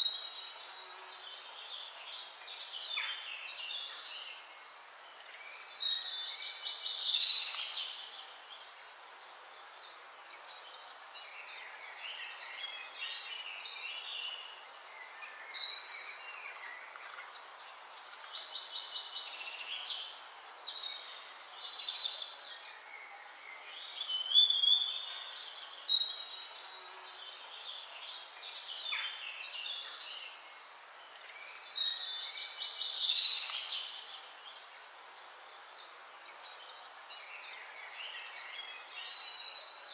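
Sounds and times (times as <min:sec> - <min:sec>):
warbling bird song: 0:00.0 - 0:39.9.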